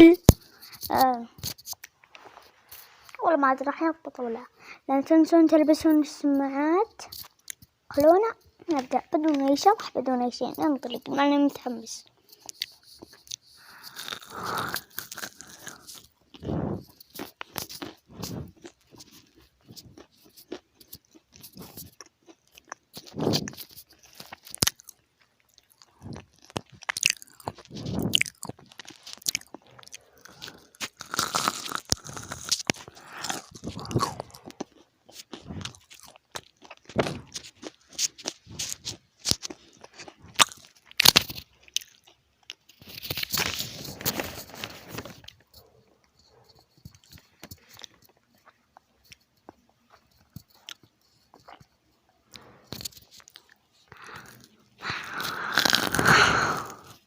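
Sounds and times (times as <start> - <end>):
crunching and chewing crisp food: 0.0 - 3.2, 5.8 - 57.0.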